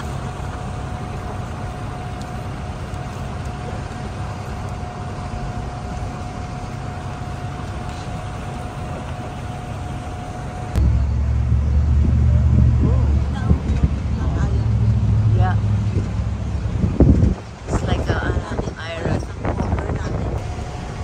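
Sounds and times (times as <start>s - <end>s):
bus road rumble: 0.0s - 21.0s
loud low rumble: 0.0s - 21.0s.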